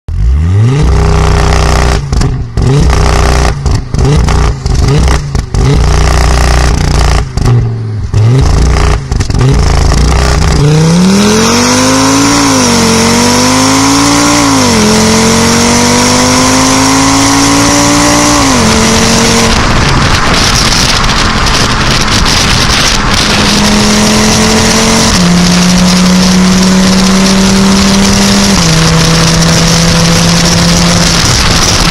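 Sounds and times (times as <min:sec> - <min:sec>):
turbocharged car engine revving: 0:00.1 - 0:31.9.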